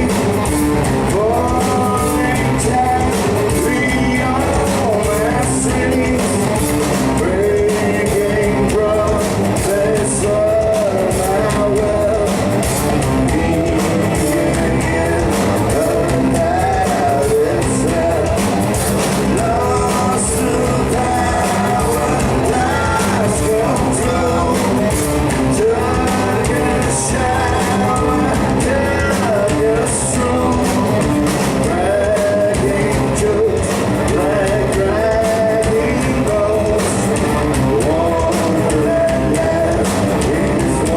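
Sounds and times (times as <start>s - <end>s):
drums: 0.0s - 40.9s
electric guitar: 0.0s - 40.9s
man singing lead vocal: 0.0s - 40.9s.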